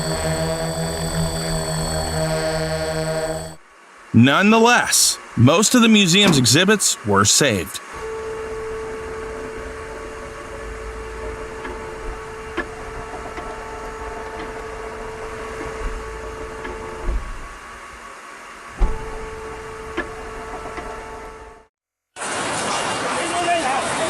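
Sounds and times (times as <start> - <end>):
steady machine hum: 0.0 - 21.7.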